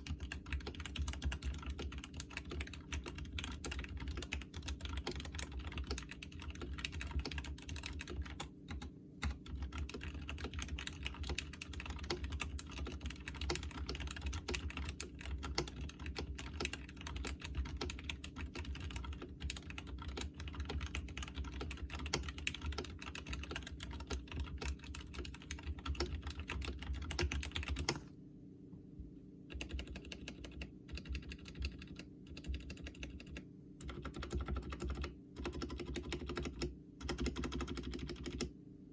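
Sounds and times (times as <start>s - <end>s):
mechanical keyboard typing: 0.0s - 28.1s, 29.5s - 38.5s.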